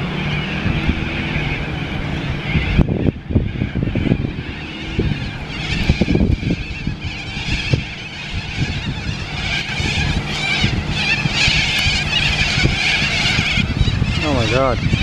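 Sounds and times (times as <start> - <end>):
birds chattering: 0.0 - 15.0
steady low rumble: 0.0 - 15.0.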